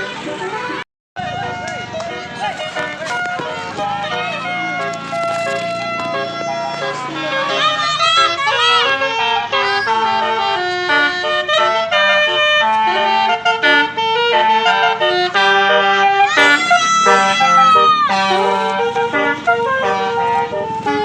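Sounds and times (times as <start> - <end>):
multi-tone horn tune: 0.0 - 21.0.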